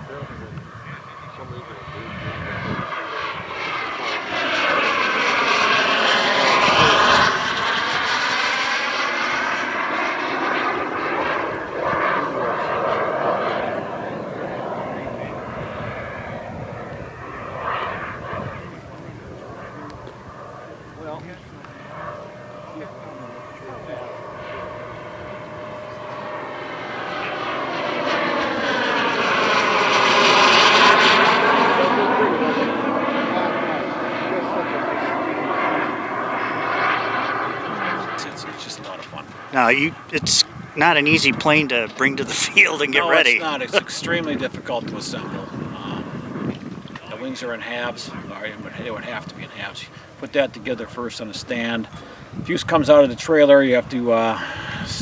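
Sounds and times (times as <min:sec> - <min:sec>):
model jet turbine whining: 0:00.0 - 0:55.0.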